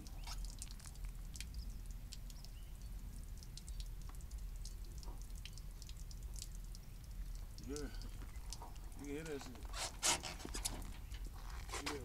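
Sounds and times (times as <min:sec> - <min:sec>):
water dripping on pavement: 0:00.0 - 0:12.0.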